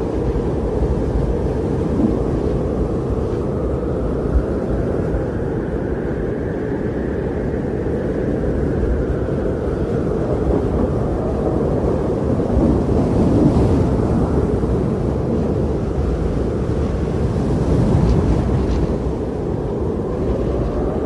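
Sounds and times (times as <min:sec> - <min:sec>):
strong blizzard wind: 0:00.0 - 0:21.0.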